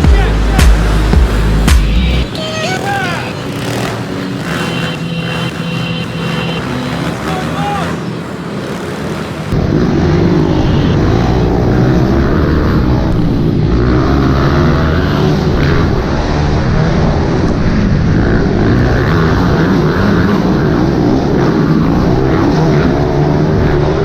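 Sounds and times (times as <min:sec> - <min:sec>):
pit bike engines revving: 0:00.0 - 0:24.0.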